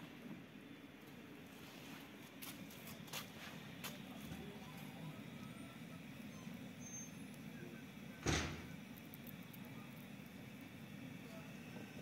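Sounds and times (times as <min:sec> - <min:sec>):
blowtorch flame rushing: 0:01.5 - 0:12.0.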